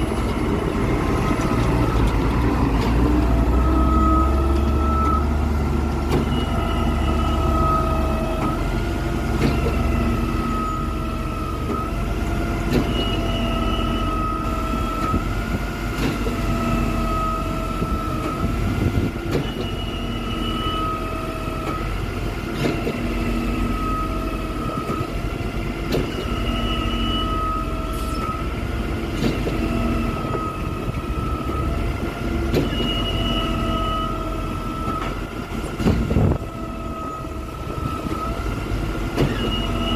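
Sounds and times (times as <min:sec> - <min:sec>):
concrete pump engine and hydraulic whine: 0:00.0 - 0:39.9.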